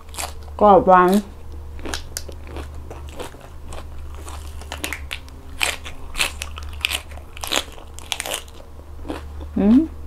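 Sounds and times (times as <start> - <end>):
crunching raw cabbage leaf: 0.0 - 9.3.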